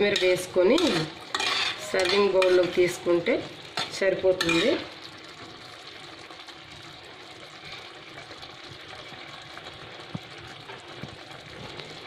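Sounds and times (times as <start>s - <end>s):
gravy simmering in a pan: 0.0s - 12.0s.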